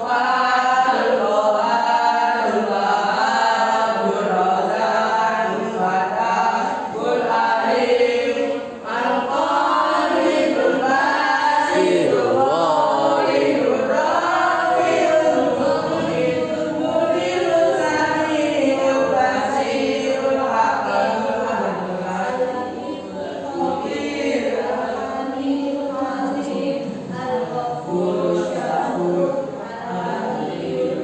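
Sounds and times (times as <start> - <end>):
group singing or chanting: 0.0 - 31.0.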